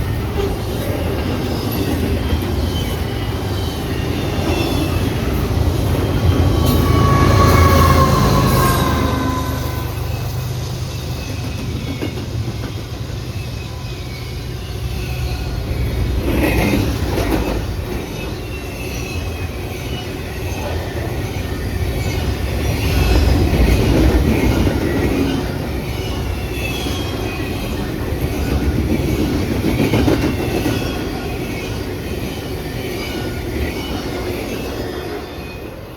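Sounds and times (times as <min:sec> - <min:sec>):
high wheel squeals: 0:00.0 - 0:35.9
train wheels clattering on rails: 0:00.0 - 0:35.9.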